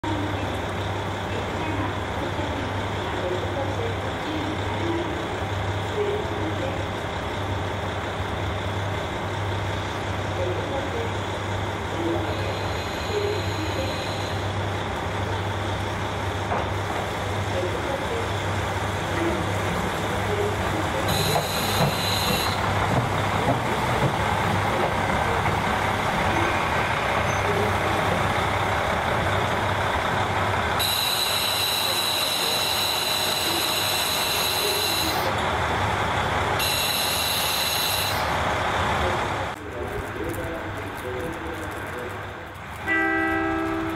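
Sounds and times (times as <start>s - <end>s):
diesel railcar engine drone: 0.0s - 43.9s.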